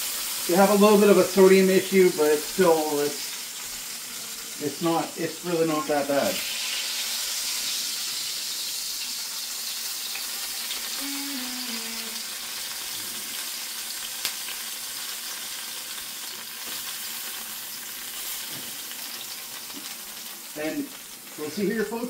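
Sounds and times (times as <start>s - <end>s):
oil sizzling in a skillet: 0.0s - 22.0s.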